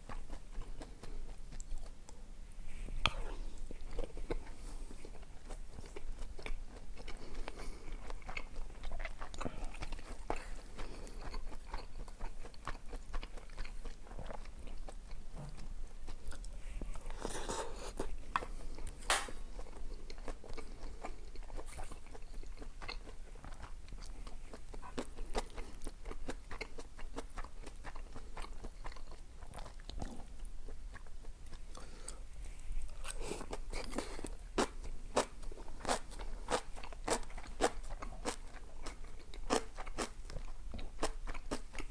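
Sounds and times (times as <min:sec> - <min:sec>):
person chewing food: 0:00.0 - 0:41.9
food crunching: 0:03.0 - 0:41.9.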